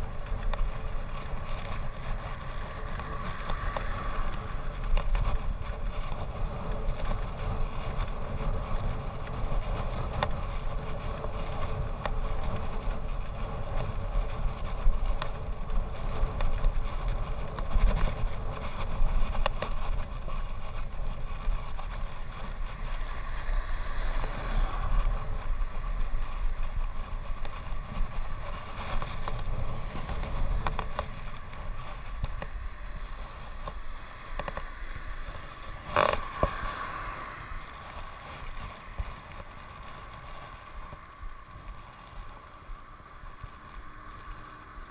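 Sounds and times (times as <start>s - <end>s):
bicycle tyre noise: 0.0s - 44.9s
wind buffeting microphone: 0.0s - 44.9s.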